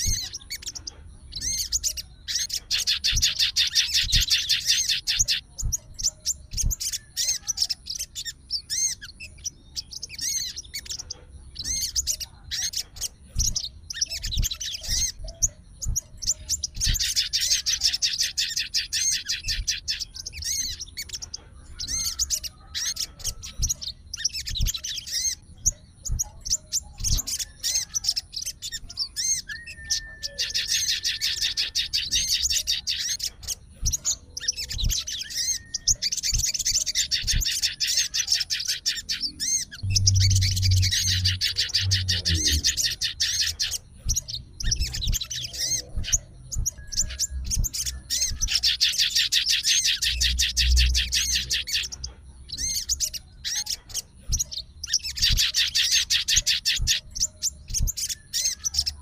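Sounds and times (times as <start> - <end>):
songbird chirping and twittering: 0.0 - 59.0.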